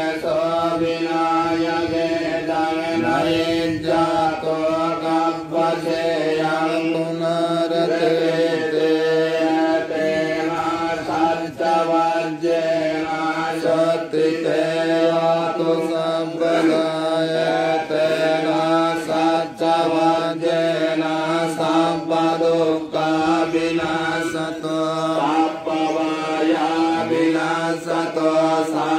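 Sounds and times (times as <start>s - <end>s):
monks chanting through microphone: 0.0s - 28.9s.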